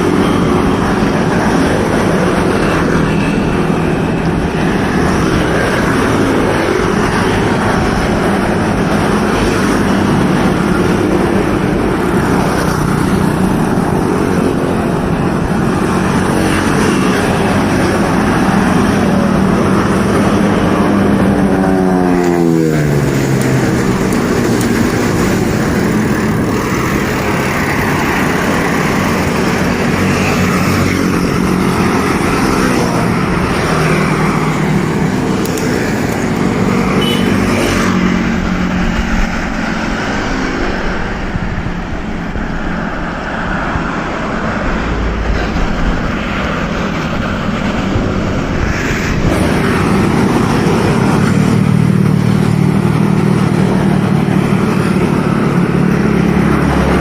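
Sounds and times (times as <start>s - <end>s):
road noise rushing: 0.0s - 57.0s
vehicle engines running: 0.0s - 57.0s.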